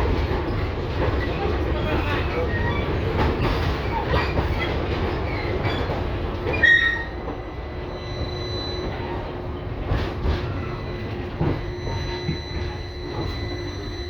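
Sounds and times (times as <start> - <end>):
tram rumbling on rails: 0.0 - 14.0
high-pitched wheel squeal: 2.5 - 14.0.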